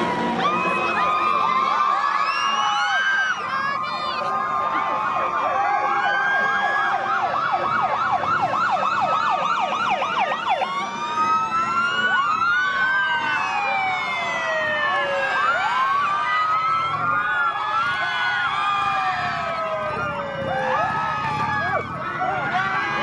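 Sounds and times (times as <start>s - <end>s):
police sirens yelping and wailing: 0.0s - 23.0s.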